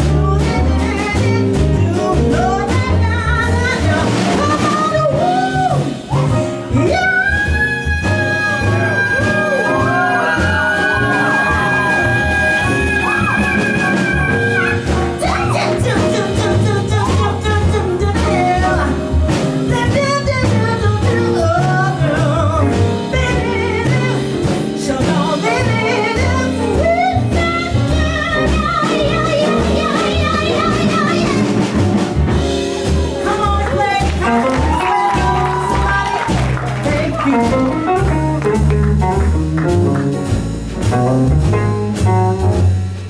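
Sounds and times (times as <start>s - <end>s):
band playing slow blues: 0.0s - 43.0s
walking bass: 0.0s - 43.0s.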